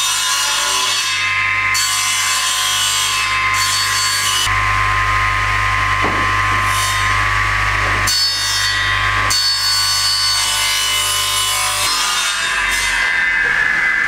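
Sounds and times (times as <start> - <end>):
mitre saw cutting wood: 0.0 - 14.0.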